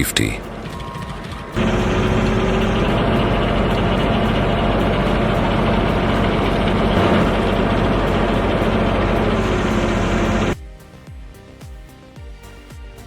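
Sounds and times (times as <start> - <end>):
heavy machine engine running: 0.0 - 10.6
dense mechanical noise: 0.0 - 13.0.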